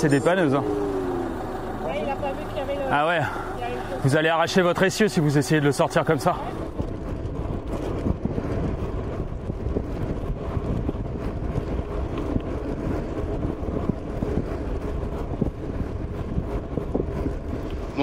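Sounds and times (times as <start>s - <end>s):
bike tyres rumbling on pavement: 0.0s - 18.0s
wind buffeting microphone: 0.0s - 18.0s.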